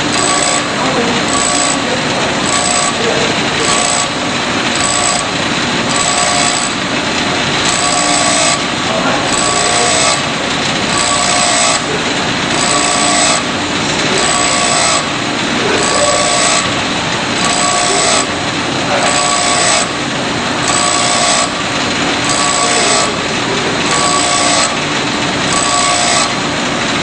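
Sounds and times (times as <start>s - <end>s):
grinding wheel grinding steel: 0.0s - 27.0s.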